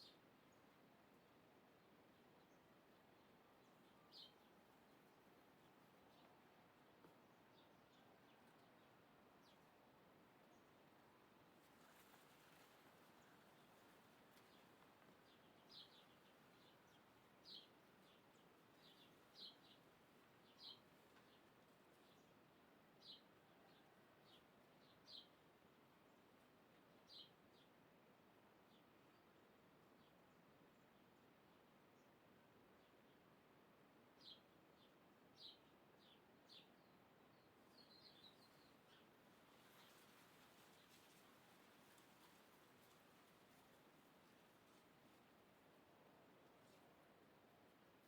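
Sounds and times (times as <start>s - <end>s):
background hiss: 0.0s - 48.0s.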